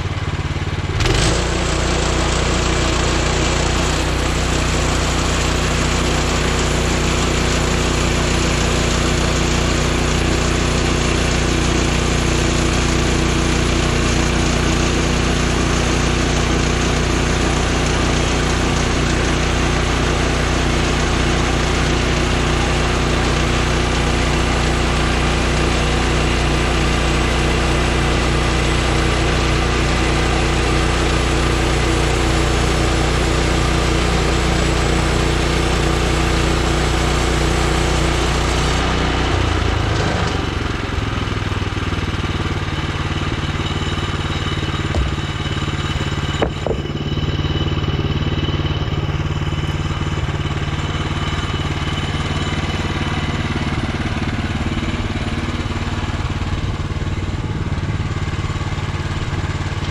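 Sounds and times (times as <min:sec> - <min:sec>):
gas engine running under load: 0:00.0 - 0:59.9.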